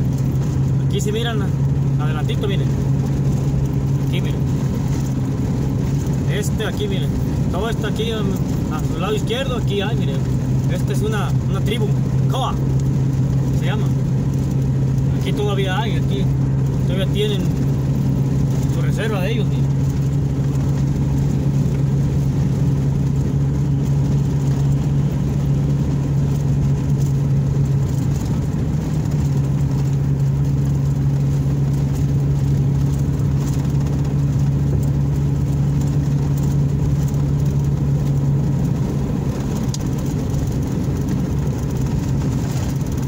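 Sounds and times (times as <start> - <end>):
car engine and tyres humming: 0.0 - 43.0.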